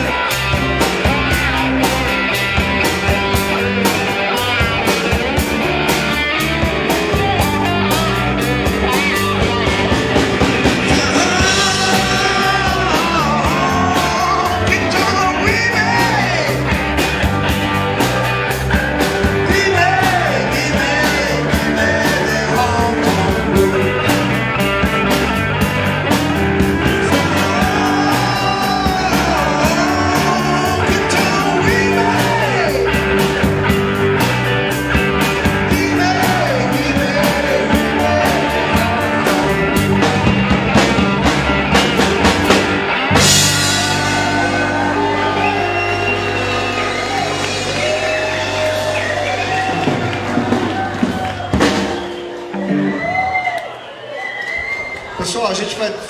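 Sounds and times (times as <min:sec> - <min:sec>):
lead guitar bending pitch: 0:00.0 - 0:53.0
live rock band playing: 0:00.0 - 0:53.6.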